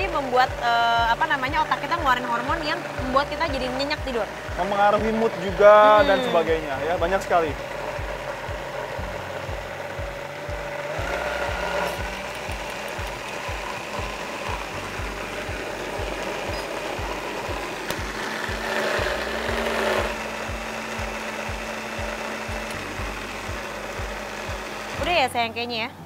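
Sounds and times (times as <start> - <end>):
blender running: 0.0 - 25.6.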